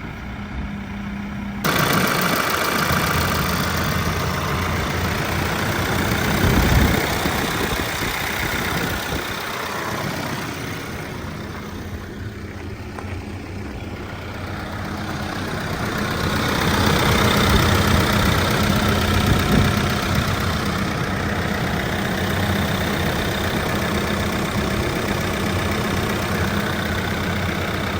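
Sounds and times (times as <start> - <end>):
diesel engine idling: 0.0 - 27.9.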